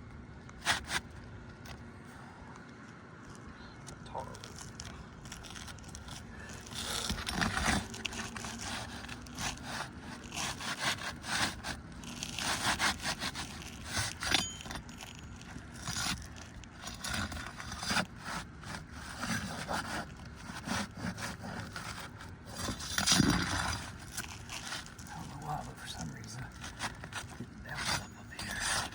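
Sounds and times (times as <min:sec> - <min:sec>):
roof shingle scraping: 0:00.6 - 0:01.7, 0:04.4 - 0:28.9.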